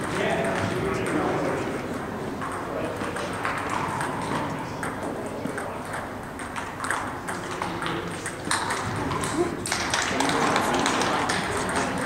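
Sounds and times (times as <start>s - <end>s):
table tennis balls clicking: 1.9s - 12.0s.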